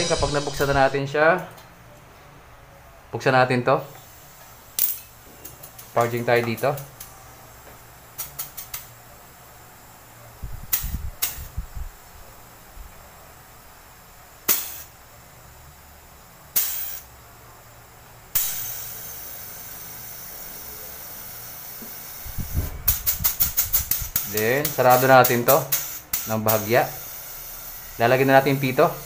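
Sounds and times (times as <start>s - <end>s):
pressurised gas hissing: 0.0s - 1.1s, 3.9s - 29.0s.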